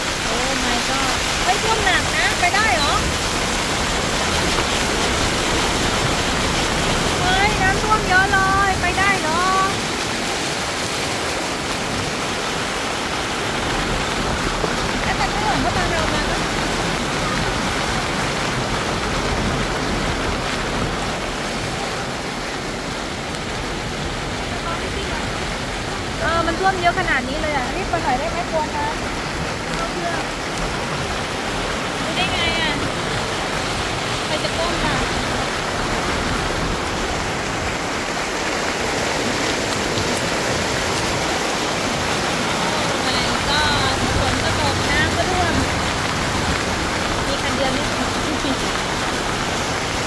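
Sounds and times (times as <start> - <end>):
floodwater rushing and splashing: 0.0 - 50.0
rain on car: 0.0 - 50.0
tyres spraying water: 0.0 - 50.0.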